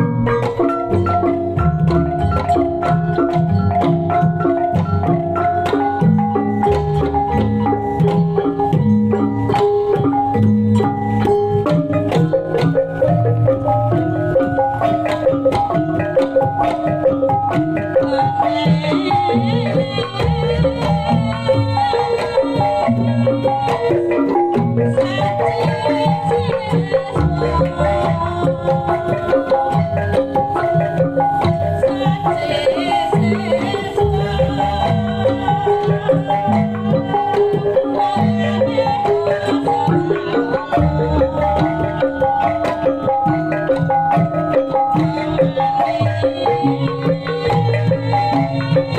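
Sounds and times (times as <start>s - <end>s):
hand drum beats: 0.0s - 48.9s
metallophones playing melody: 0.0s - 48.9s.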